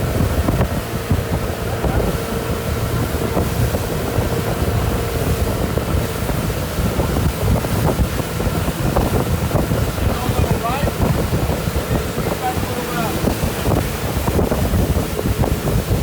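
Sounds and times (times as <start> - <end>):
motorboat engine humming: 0.0 - 16.0
rushing water: 0.0 - 16.0
wind buffeting microphone: 0.0 - 16.0.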